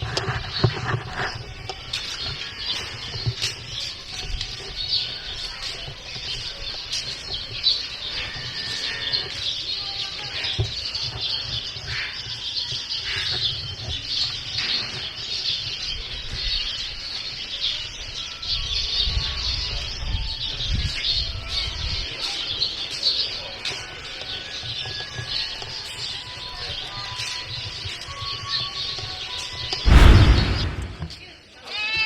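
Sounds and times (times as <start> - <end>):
small birds chirping: 0.0 - 29.8.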